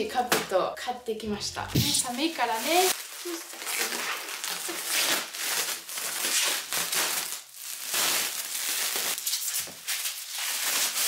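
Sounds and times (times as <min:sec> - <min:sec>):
plastic wrapping crinkling: 0:01.8 - 0:11.0.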